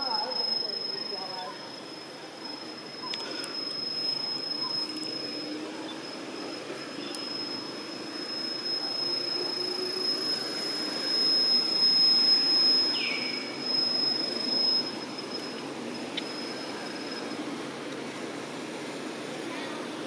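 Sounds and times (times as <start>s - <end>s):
continuous rushing hiss: 0.0s - 20.0s
high-pitched whine: 0.0s - 20.0s.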